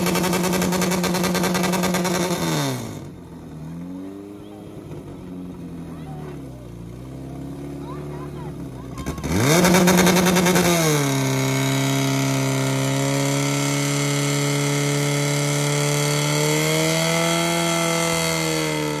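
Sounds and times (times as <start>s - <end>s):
pump engine revving: 0.0s - 5.5s, 6.8s - 19.0s.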